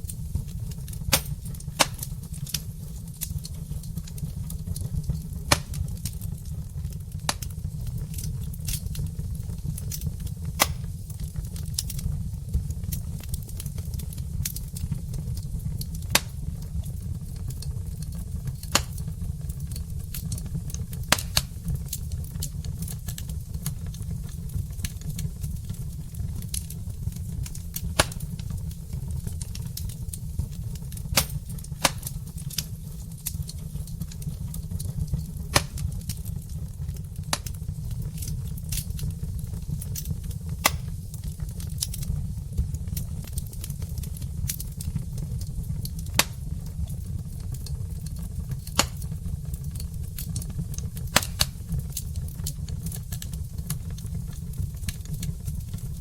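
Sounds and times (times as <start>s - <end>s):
fire crackles and pops: 0.0s - 56.0s
fireplace fire rumble: 0.0s - 56.0s.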